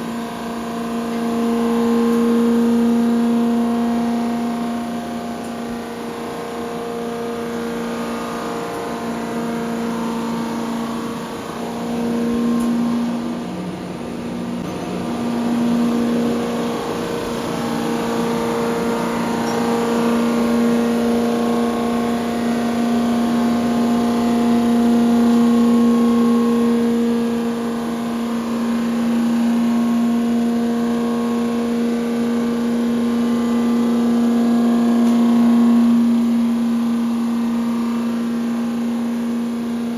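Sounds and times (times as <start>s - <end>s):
machining equipment humming: 0.0s - 39.9s.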